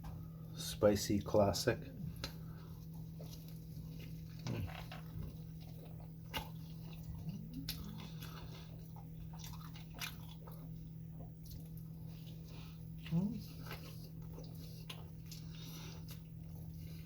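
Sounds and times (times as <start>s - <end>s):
chewing with soft crunches: 0.0s - 17.0s
steady low hum: 0.0s - 17.0s.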